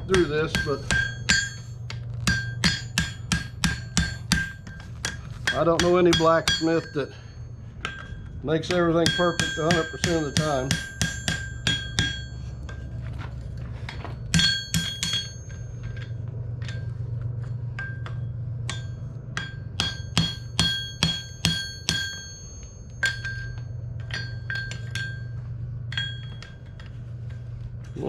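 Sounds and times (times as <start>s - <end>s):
hammer ringing on anvil: 0.0s - 13.0s, 14.2s - 27.0s
low hum: 0.0s - 28.0s.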